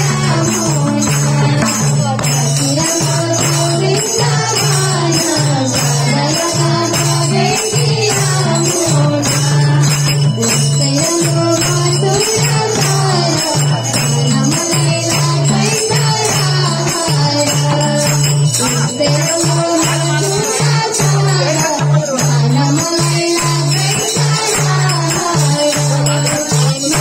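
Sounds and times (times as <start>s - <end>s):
hand drums rhythm: 0.0s - 27.0s
high percussion strokes: 0.0s - 27.0s.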